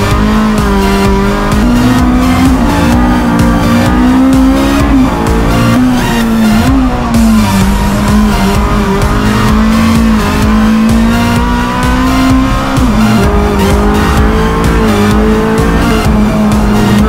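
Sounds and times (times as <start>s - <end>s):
race car engine pulling hard: 0.0s - 17.0s.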